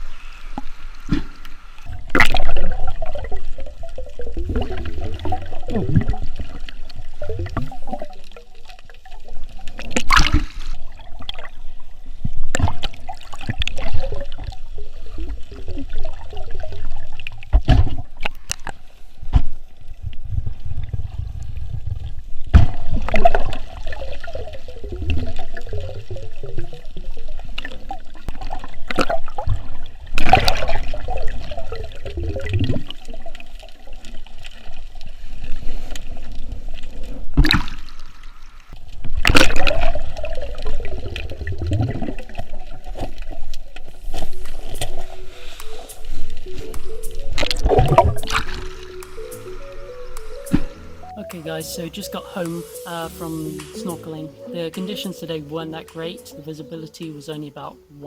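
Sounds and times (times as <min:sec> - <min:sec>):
water sloshing and gurgling: 0:00.0 - 0:51.2.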